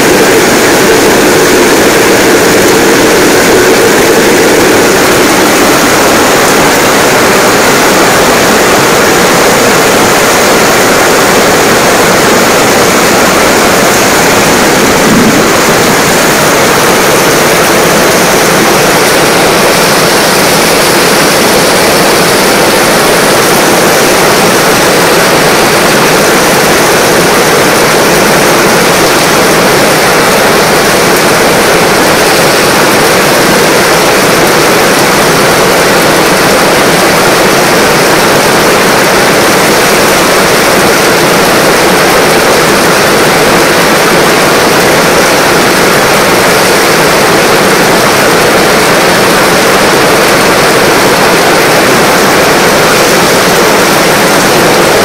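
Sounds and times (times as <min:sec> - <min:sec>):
heavy rain splashing on stone: 0:00.0 - 0:55.0.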